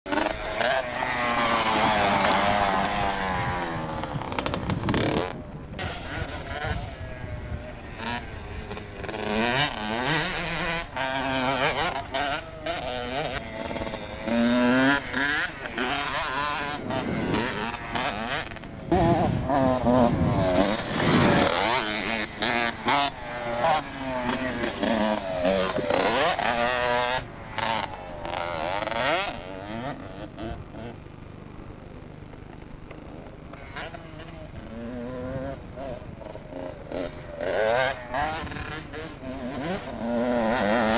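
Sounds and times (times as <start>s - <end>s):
two-stroke dirt bike revving past: 0.1s - 31.0s, 33.0s - 40.9s.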